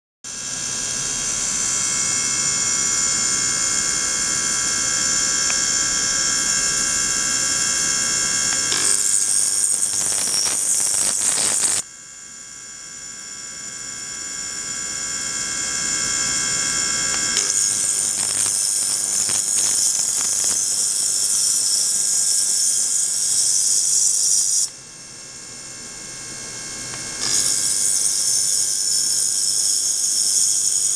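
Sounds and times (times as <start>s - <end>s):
high-pitched ultrasonic whine: 0.3s - 30.9s.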